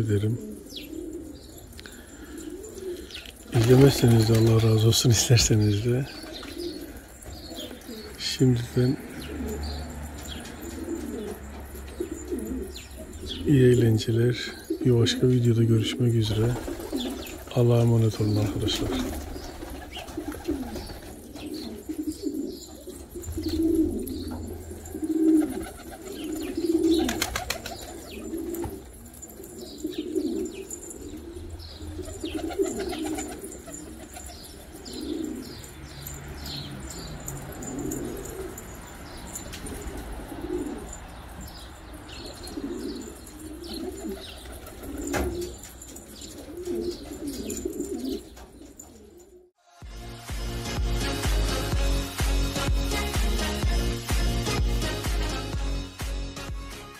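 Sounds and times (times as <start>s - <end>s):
pigeons cooing: 0.0s - 49.6s.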